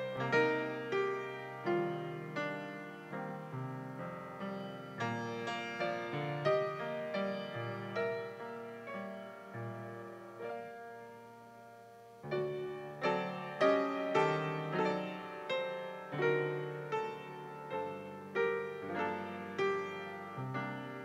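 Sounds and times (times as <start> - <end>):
grand piano playing: 0.0 - 21.0.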